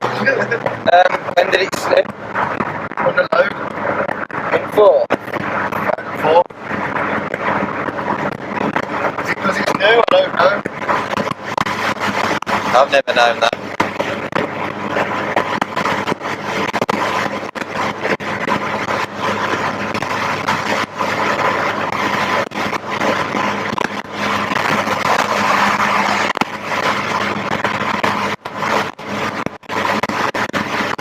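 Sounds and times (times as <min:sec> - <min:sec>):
car engine: 0:00.0 - 0:31.0
tyre noise on a wet road: 0:00.0 - 0:31.0.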